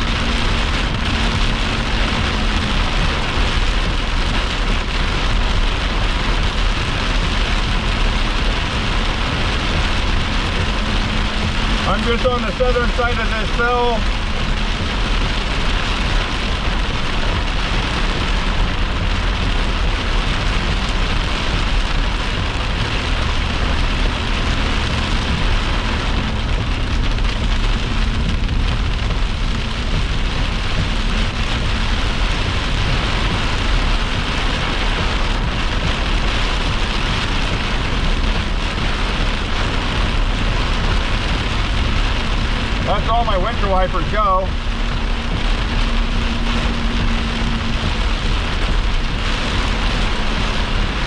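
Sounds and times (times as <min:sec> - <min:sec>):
heavy rain on vehicle: 0:00.0 - 0:51.0
vehicle low rumble: 0:00.0 - 0:51.0.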